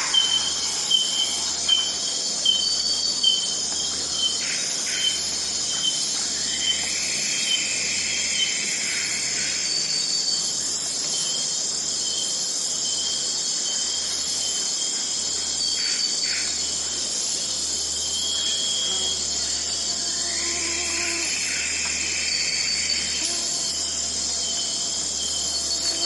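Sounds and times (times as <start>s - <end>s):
crickets and insects chirring: 0.0s - 26.0s.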